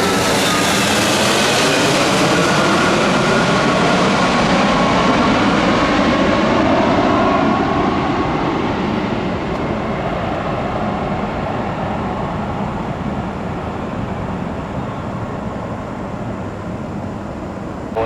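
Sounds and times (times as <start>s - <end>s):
jet airliner engine rumble: 0.0s - 18.0s.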